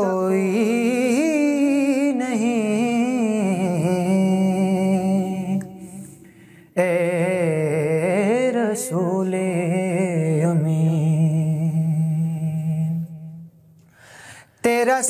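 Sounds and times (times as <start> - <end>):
man singing devotional song: 0.0 - 13.6, 14.2 - 15.0.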